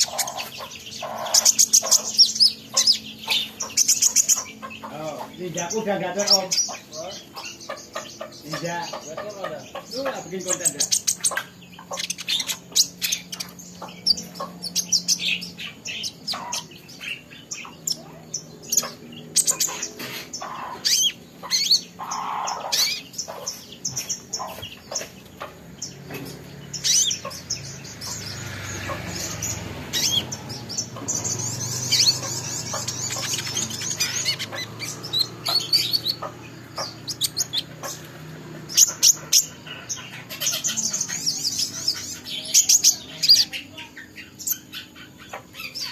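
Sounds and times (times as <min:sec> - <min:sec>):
songbird chirping and twittering: 0:00.0 - 0:45.9.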